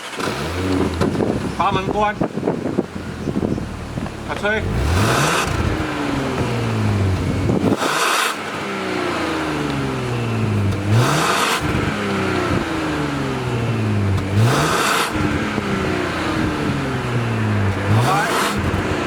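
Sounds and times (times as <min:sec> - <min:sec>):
car engine revving: 0:00.0 - 0:19.0
loud exhaust blast: 0:00.2 - 0:19.0.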